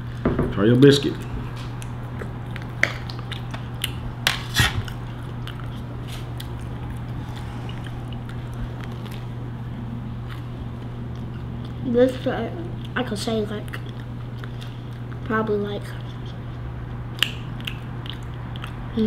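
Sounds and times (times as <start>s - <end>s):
steady low hum: 0.0s - 19.0s
people chewing: 0.9s - 19.0s.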